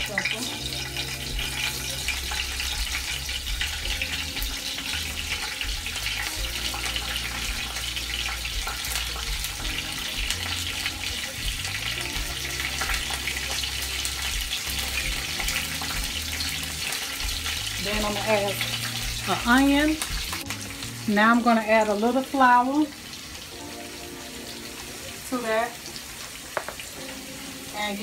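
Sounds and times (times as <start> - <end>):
oil sizzling in a frying pan: 0.0 - 28.0.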